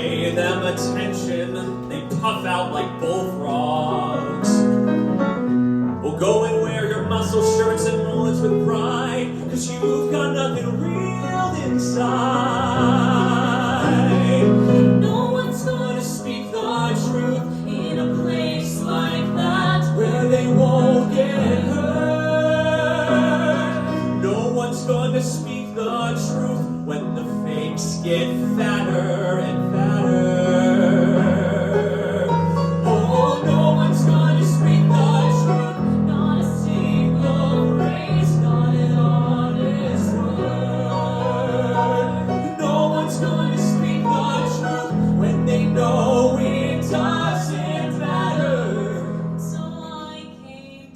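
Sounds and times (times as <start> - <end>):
person singing with vibrato: 6.0 - 50.9.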